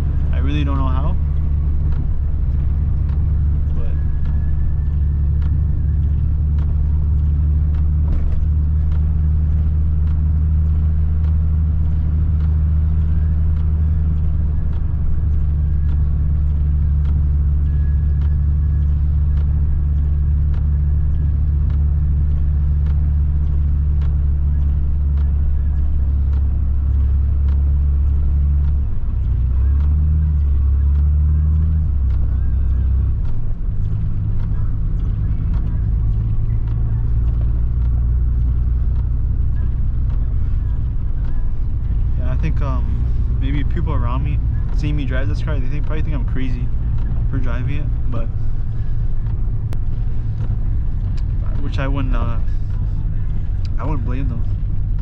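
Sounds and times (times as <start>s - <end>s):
car engine droning in cabin: 0.0s - 55.0s.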